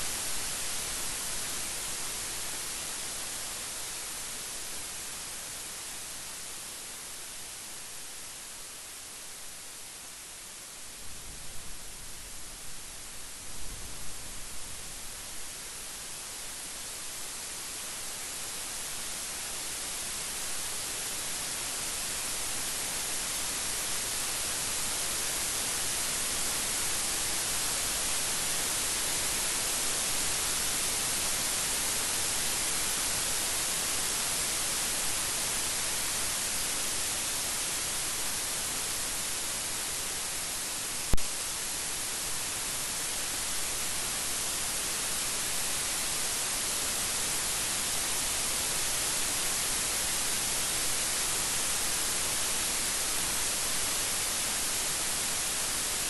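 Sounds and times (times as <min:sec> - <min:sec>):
heavy rain: 0:10.3 - 0:56.0.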